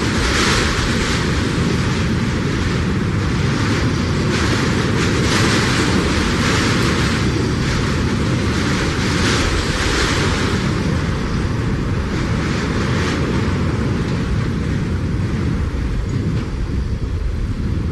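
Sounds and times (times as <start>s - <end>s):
hurricane wind gusting: 0.0s - 17.9s.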